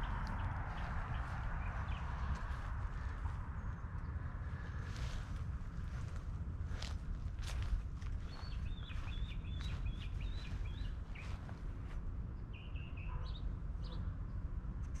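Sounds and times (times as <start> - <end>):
songbird chirping: 0.0 - 14.1
wind rumble on microphone: 0.0 - 15.0.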